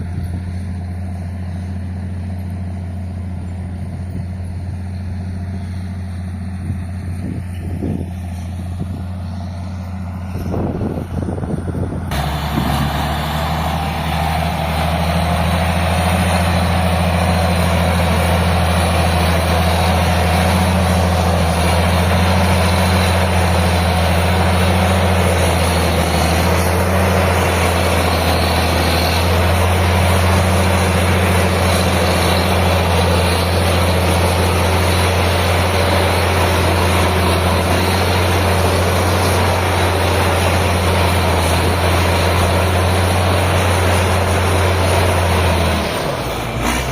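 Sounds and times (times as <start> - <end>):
diesel tractor engine running: 0.0 - 46.9.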